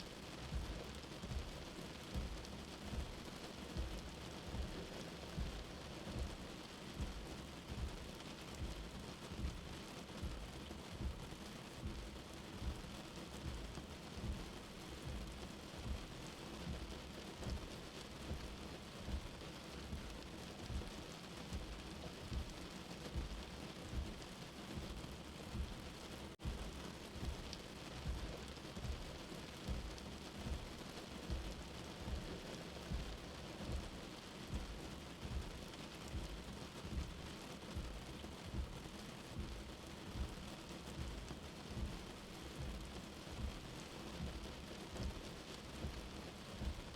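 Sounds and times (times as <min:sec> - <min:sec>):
steady rain: 0:00.0 - 0:46.9
deep heartbeat thumping: 0:00.5 - 0:46.9.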